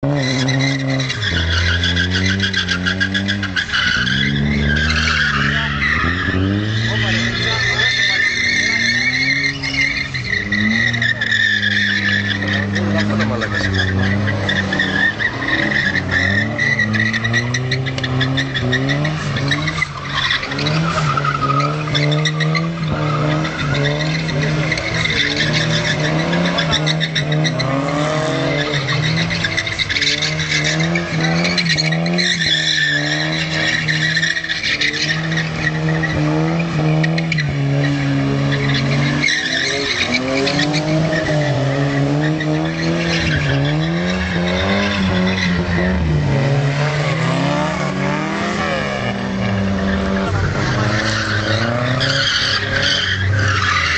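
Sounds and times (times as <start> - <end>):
car engine revving: 0.0 - 53.9
tyres squealing: 0.1 - 53.9.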